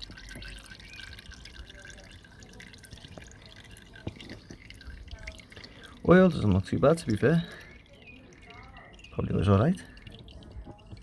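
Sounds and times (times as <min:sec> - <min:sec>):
dripping and trickling: 0:00.0 - 0:11.0
oil draining into pan: 0:00.0 - 0:11.0.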